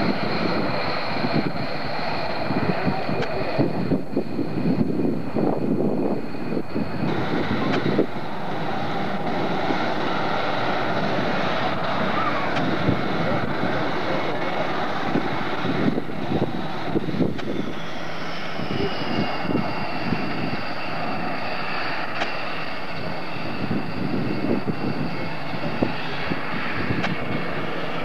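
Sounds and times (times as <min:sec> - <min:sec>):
high jet whine: 0:00.0 - 0:28.0
jet engines rushing: 0:00.0 - 0:28.0.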